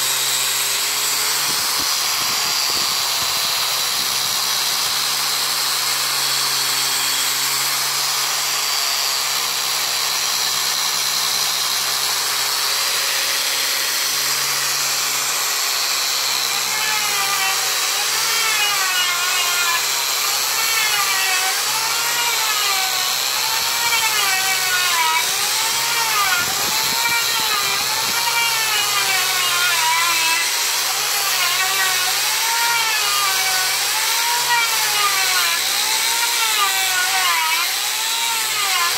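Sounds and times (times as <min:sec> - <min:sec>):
angle grinder sanding wood: 0:00.0 - 0:38.9.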